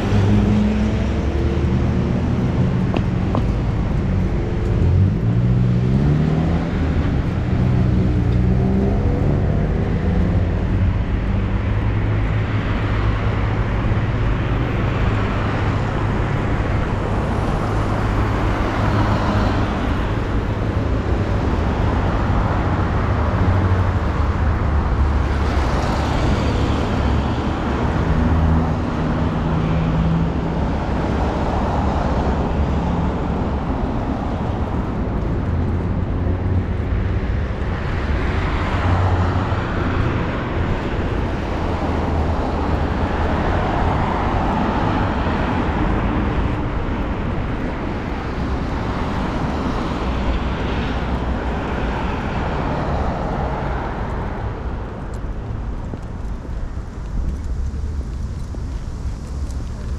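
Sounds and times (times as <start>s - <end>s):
cars passing: 0.0s - 59.9s
low rumble of road noise: 0.0s - 59.9s.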